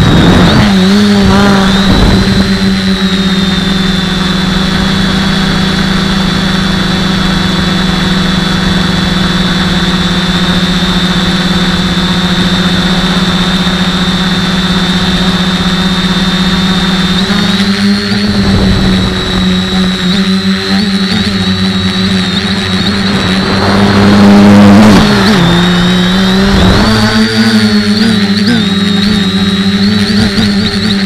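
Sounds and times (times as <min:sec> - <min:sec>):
drone motors whirring: 0:00.0 - 0:31.0.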